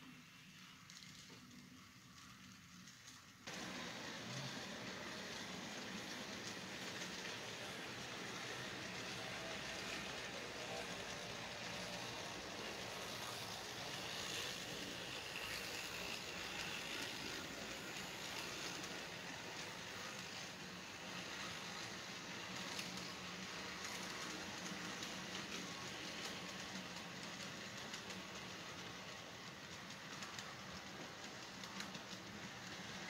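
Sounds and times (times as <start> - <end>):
model train wheels hissing on rail: 0.0 - 33.0.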